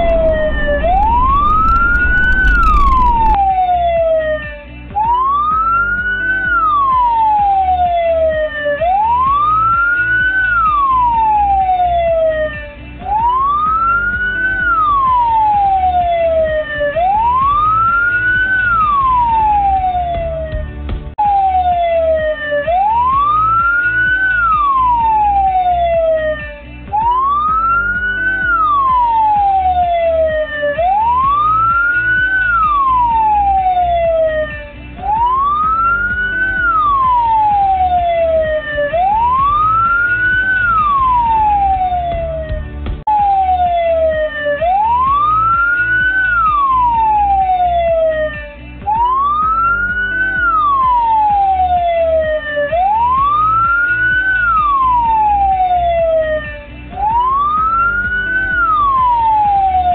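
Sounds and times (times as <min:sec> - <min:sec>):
electronic siren wailing: 0:00.0 - 0:59.9.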